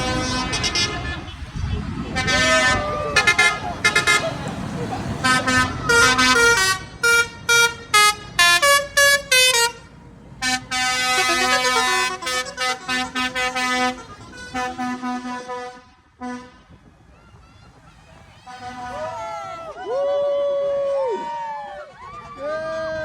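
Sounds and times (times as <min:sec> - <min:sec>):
tractor horns tooting: 0:00.0 - 0:19.8.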